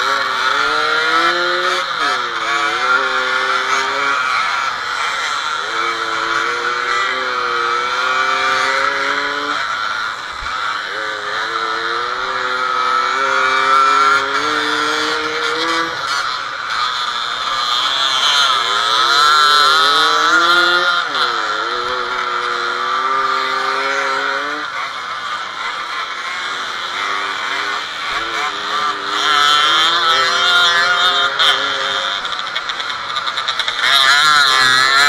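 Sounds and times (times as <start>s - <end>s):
moped engine revving: 0.0s - 35.0s
other moped engines running: 0.0s - 35.0s.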